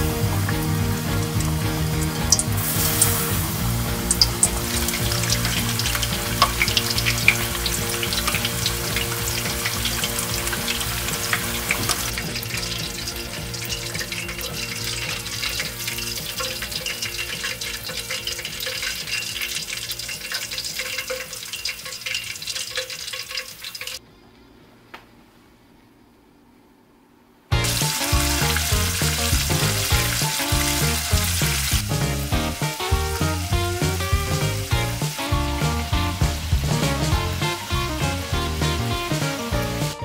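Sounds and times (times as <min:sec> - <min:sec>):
soft background music: 0:00.0 - 0:22.3, 0:27.5 - 0:40.0
food sizzling in a frying pan: 0:00.0 - 0:24.0, 0:27.5 - 0:40.0.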